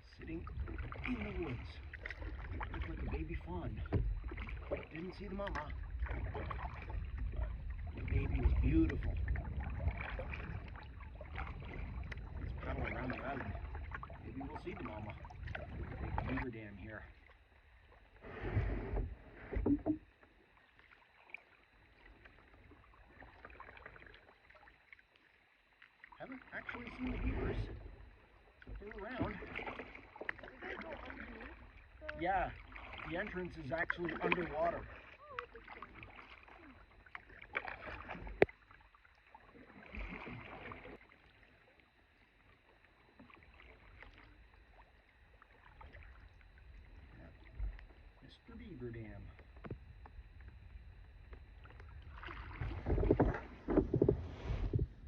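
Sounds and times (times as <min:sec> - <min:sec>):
paddle strokes splashing: 0:00.0 - 0:55.0
water and paddle sounds: 0:00.0 - 0:55.0.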